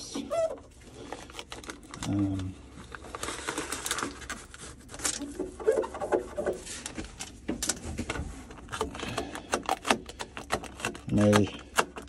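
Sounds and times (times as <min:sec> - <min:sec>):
metal foil crinkling: 0:00.3 - 0:11.8.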